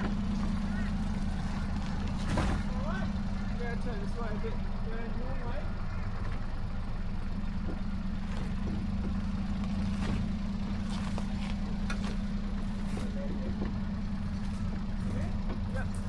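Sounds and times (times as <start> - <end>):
small truck engine running: 0.0 - 16.0.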